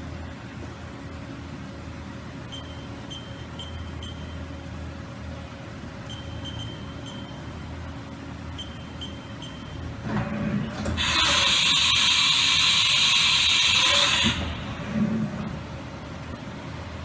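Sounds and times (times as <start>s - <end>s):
machining center humming: 0.0s - 17.0s.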